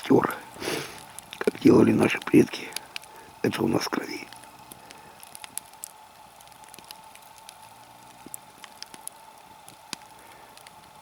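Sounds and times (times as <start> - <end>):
embers crackling and popping: 0.0 - 11.0
faint steady hum: 0.0 - 11.0.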